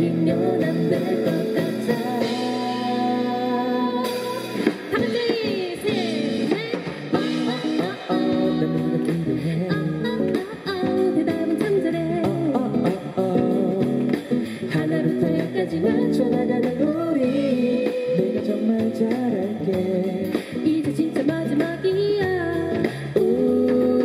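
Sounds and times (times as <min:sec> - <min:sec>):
piano: 0:00.0 - 0:24.0
woman singing: 0:00.0 - 0:24.0.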